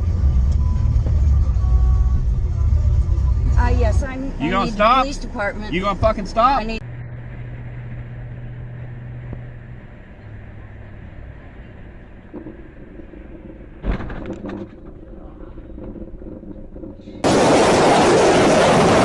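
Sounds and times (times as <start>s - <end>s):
vehicle engine and road hum: 0.0s - 19.0s.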